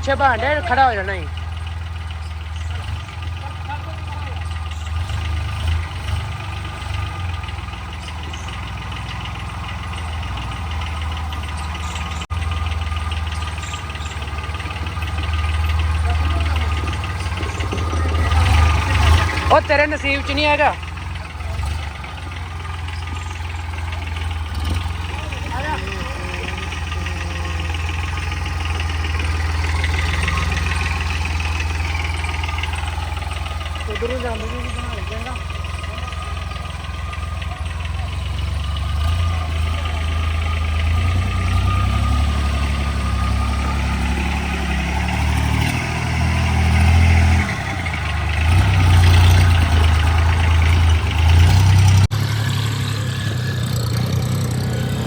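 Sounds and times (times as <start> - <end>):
tractor engine pulsing: 0.0 - 55.0.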